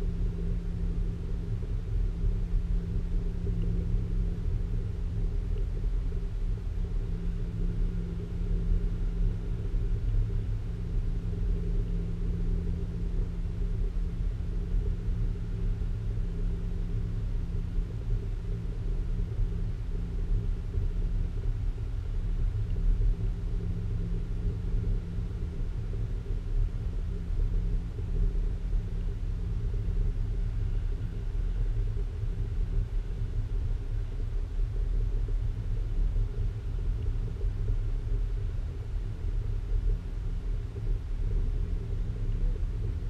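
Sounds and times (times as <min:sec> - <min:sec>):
low humming notes: 0:00.0 - 0:43.0.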